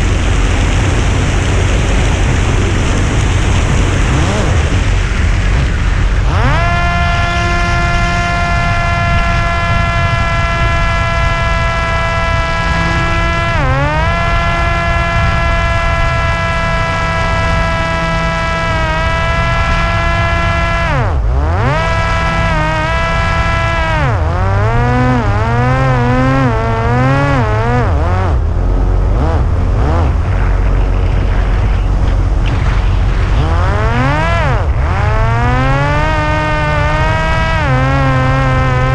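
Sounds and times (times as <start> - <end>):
electric motor and propeller whining: 0.0 - 38.9
wind rushing on microphone: 0.0 - 38.9.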